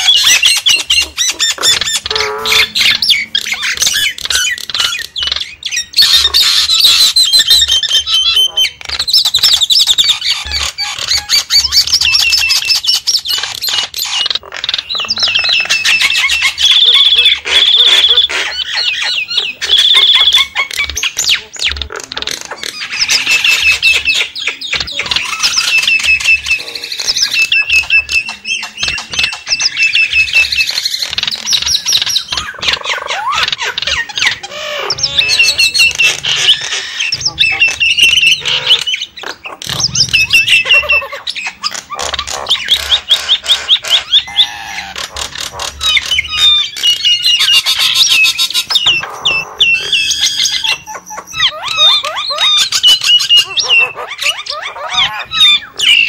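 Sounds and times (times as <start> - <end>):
mynas squawking and chattering: 0.0 - 56.0.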